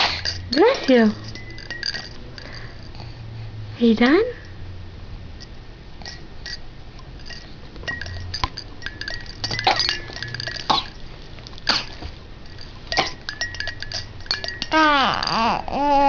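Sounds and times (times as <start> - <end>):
cymbals clinking: 0.0 - 3.0, 5.4 - 16.0.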